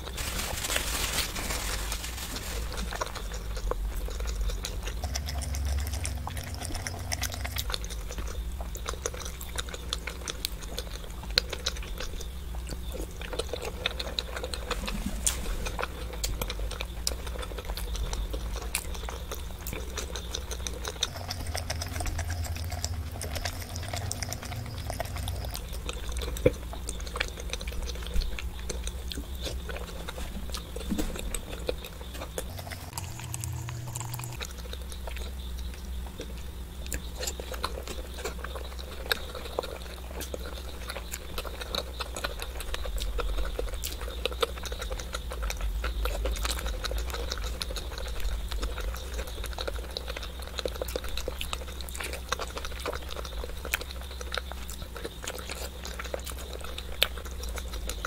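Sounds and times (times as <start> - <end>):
low steady hum: 0.0 - 58.0
wet chewing and lip smacking: 2.2 - 58.0.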